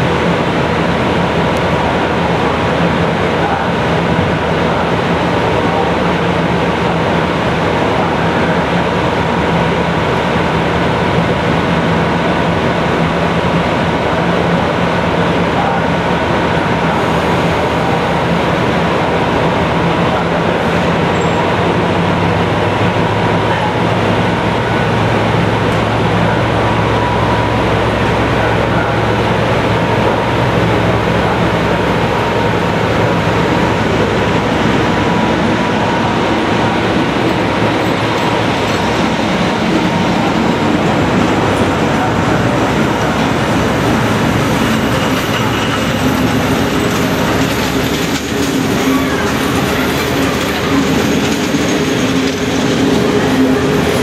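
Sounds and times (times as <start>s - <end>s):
electric locomotive humming: 0.0s - 54.0s
train wheels rumbling on rails: 0.0s - 54.0s.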